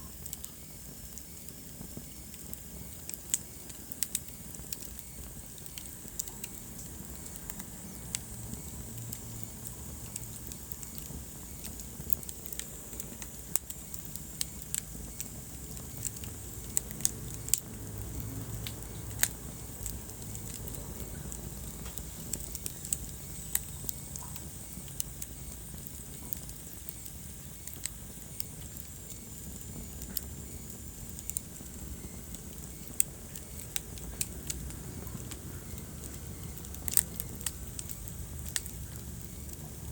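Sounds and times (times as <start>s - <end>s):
low rumble of burning logs: 0.0s - 39.9s
wood fire crackling: 0.0s - 39.9s.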